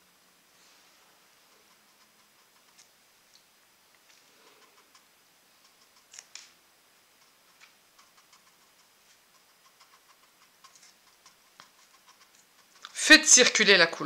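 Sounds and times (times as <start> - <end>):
paintbrush dabbing on paper: 0.6 - 3.2, 4.0 - 14.0.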